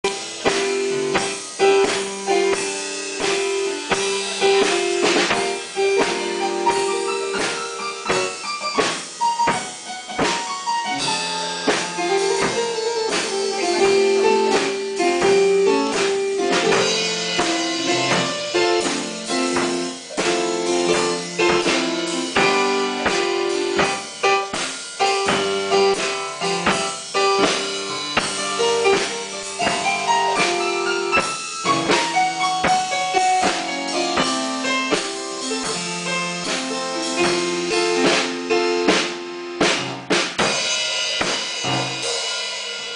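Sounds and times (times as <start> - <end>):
electronic keyboard notes: 0.0 - 40.1
drum and cymbal hits: 0.0 - 42.9.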